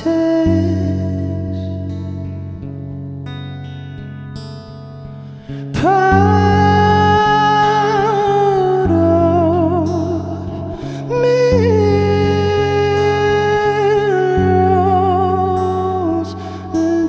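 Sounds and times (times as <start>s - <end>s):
sustained guitar chords: 0.0s - 17.0s.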